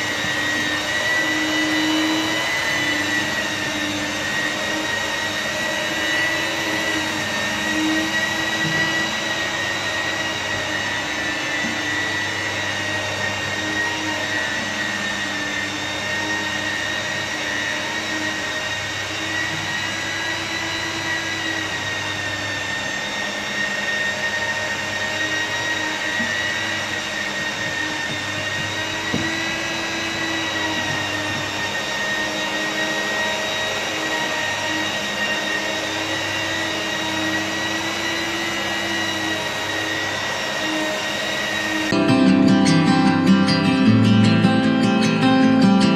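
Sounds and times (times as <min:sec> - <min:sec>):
glass polisher motor whine: 0:00.0 - 0:45.9.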